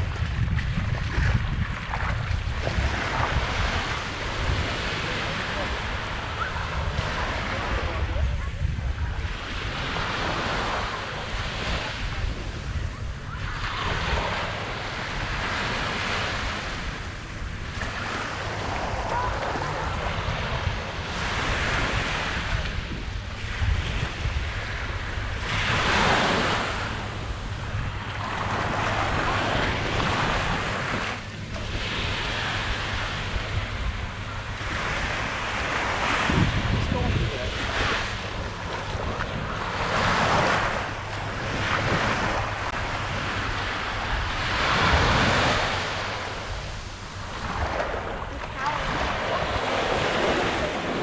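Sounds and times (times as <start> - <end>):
waves washing up a sand beach: 0.0 - 51.0
wind rumble on microphone: 0.0 - 51.0.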